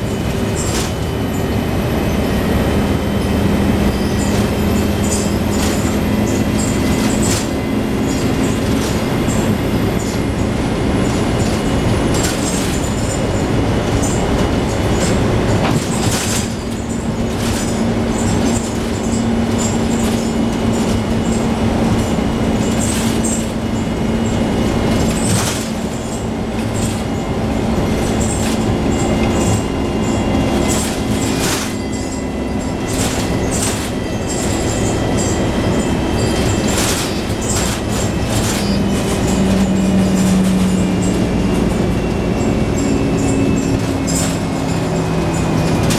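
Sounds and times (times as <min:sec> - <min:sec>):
bus engine hum: 0:00.0 - 0:45.9
rattles and clicks from bus body: 0:00.0 - 0:45.9.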